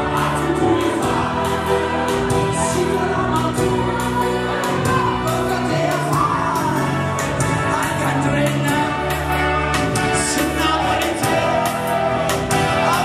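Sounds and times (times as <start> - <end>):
keyboard accompaniment: 0.0 - 13.0
voices singing together: 0.0 - 13.0.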